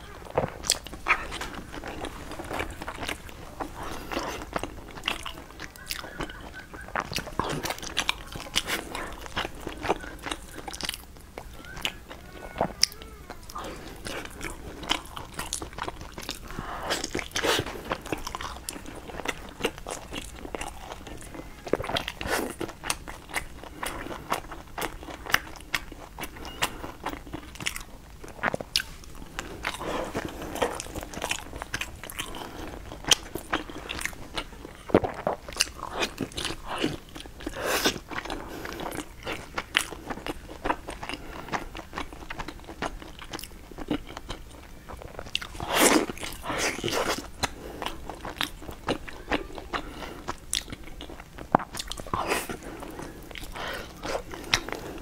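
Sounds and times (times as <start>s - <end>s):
person chewing soft food: 0.0s - 55.0s.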